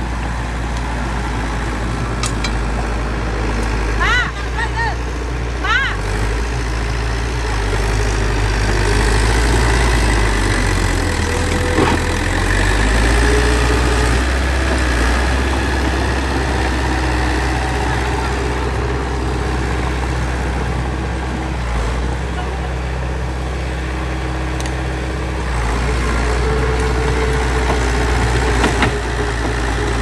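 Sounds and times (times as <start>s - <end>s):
bulldozer diesel engine rumbling: 0.0s - 30.0s.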